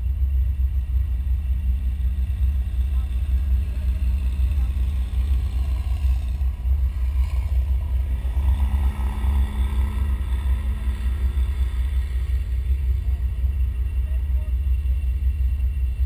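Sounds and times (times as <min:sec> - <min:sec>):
car engine idling: 0:00.0 - 0:16.0
vehicle engine driving past: 0:02.1 - 0:16.0.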